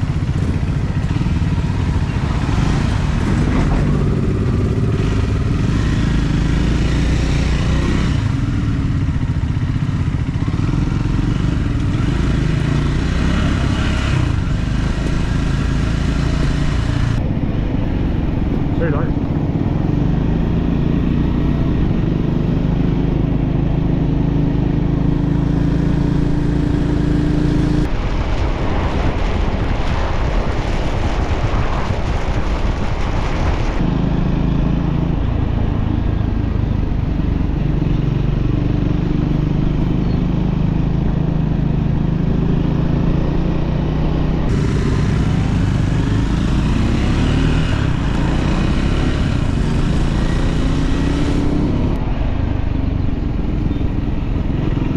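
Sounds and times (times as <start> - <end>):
wind rush: 0.0 - 23.9, 26.1 - 38.4, 40.5 - 54.9
motorcycle engine running: 0.0 - 54.9.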